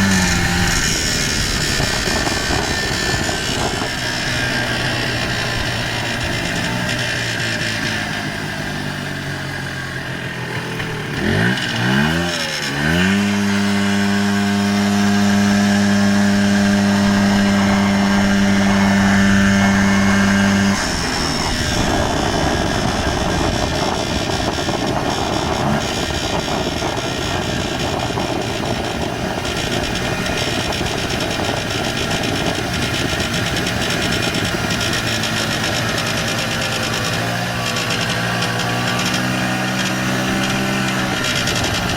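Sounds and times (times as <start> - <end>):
engine buzzing tone: 0.0 - 41.9
two-stroke engine revving: 0.0 - 41.9.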